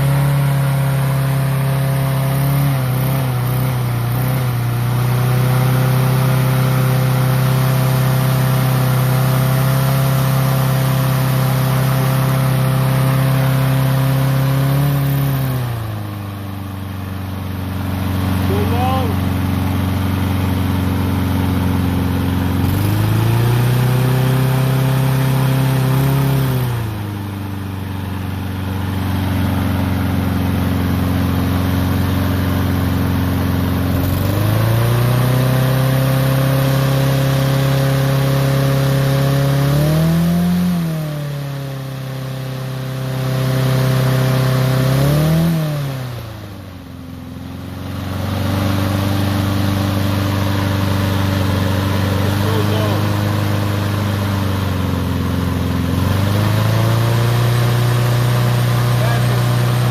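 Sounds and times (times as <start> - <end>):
lawn mower engine revving: 0.0 - 59.9.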